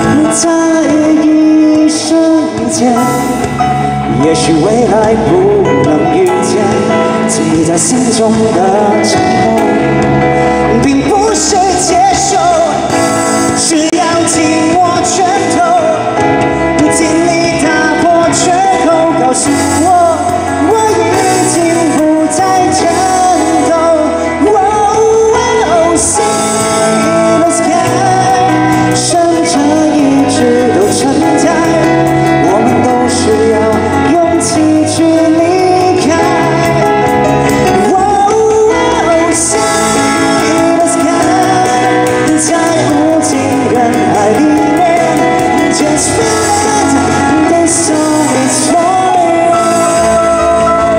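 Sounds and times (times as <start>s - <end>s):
keyboards: 0.0s - 50.9s
man singing lead: 0.0s - 50.9s.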